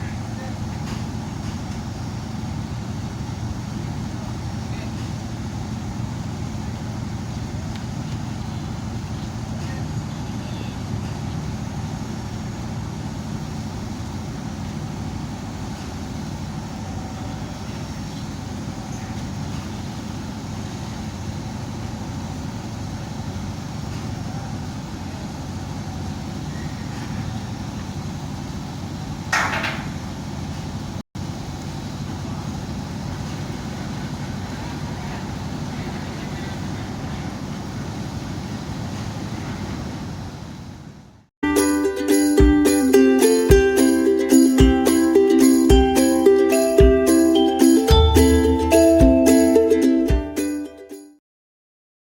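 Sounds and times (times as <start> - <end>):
ship engine rumbling: 0.0 - 50.0.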